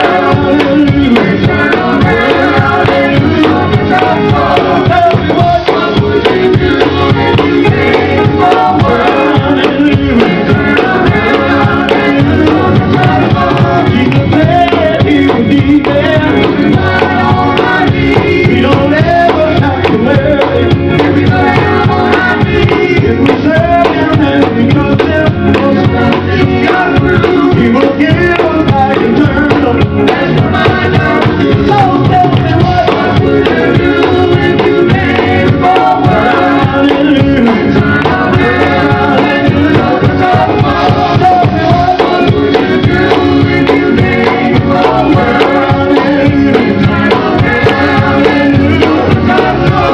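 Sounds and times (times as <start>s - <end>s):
band accompaniment: 0.0s - 49.9s
steady drum beat: 0.0s - 49.9s
vocal group singing gospel: 0.0s - 49.9s.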